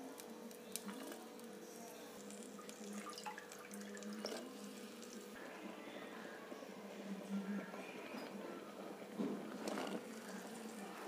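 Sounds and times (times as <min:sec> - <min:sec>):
soft steady hum: 0:00.0 - 0:11.0.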